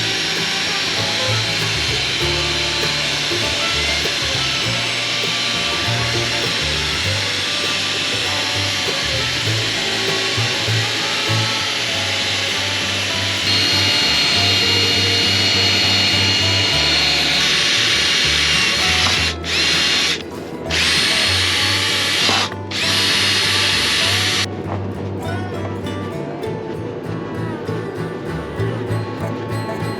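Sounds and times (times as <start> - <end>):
power tool whirring: 0.0 - 24.5
background music: 0.0 - 29.9.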